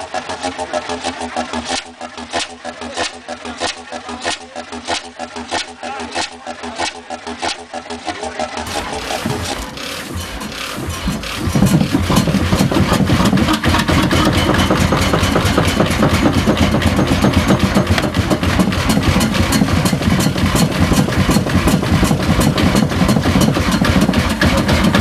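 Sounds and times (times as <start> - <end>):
stationary engine running: 0.0 - 25.0.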